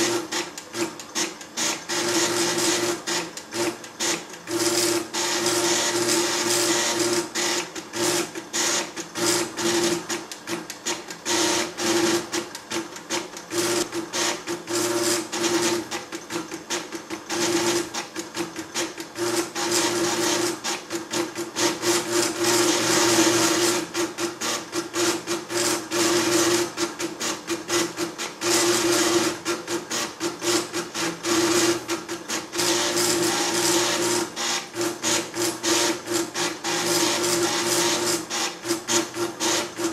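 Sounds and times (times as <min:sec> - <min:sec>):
plotter stepper motors clicking: 0:00.0 - 0:39.9.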